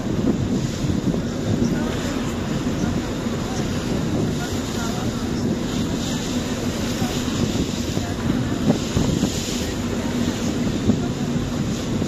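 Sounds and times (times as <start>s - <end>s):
ferry engine droning: 0.0s - 12.0s
wind on microphone: 0.0s - 12.0s
faint background voices: 0.1s - 12.0s.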